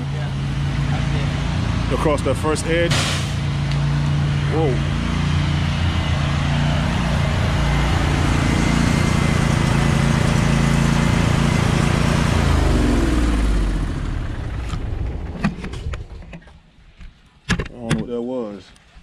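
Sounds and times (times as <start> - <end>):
pressure washer engine running: 0.0 - 15.4.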